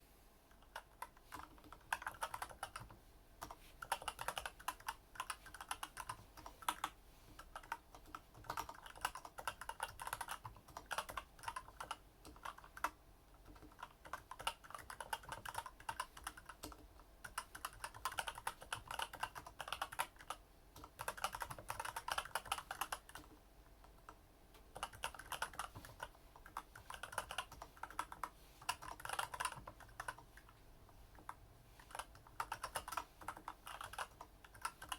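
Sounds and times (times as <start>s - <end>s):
soft mechanical keyboard typing: 0.5s - 34.9s.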